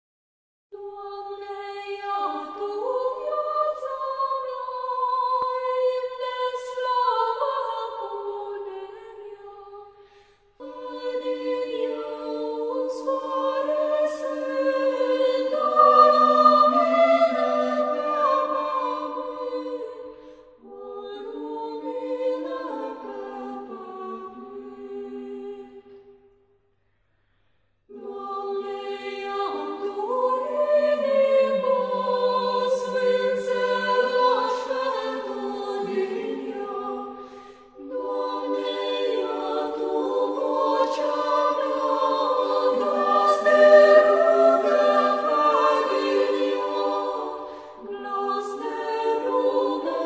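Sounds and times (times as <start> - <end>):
choir singing a hymn: 0.8 - 26.2, 27.9 - 50.0.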